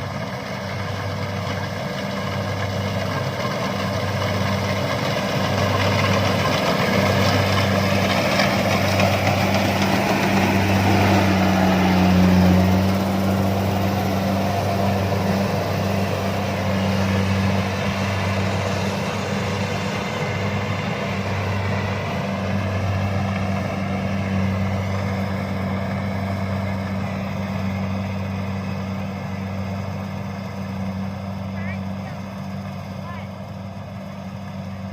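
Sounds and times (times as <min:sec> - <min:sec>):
combine harvester engine humming: 0:00.0 - 0:34.9.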